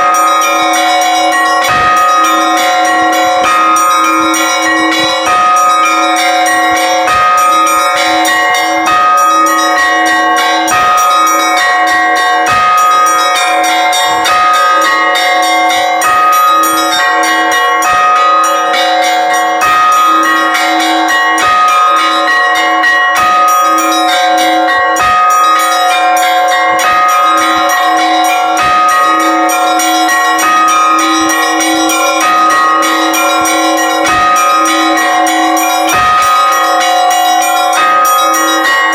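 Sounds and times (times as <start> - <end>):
middle bell repeating stroke: 0.0 - 38.9
small bells struck rapidly: 0.0 - 38.9.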